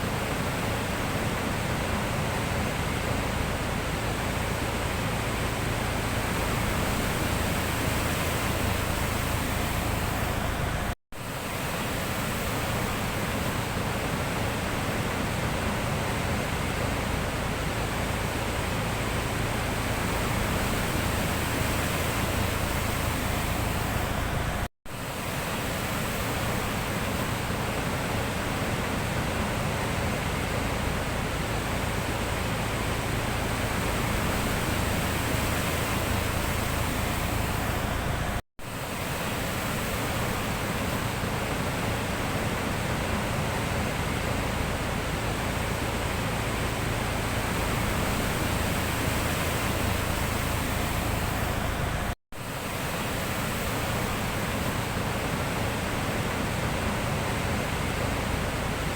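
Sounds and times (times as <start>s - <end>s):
sea surf roaring: 0.0s - 58.9s.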